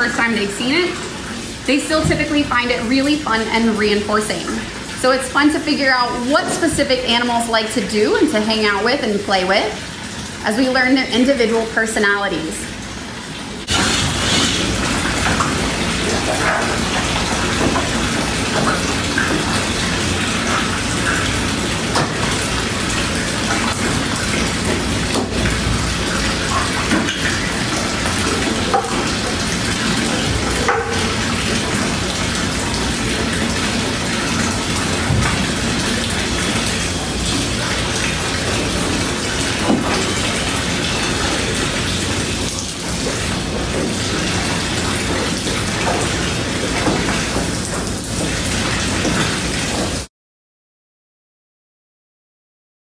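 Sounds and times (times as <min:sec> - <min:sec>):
water pouring into tub: 0:00.0 - 0:50.1.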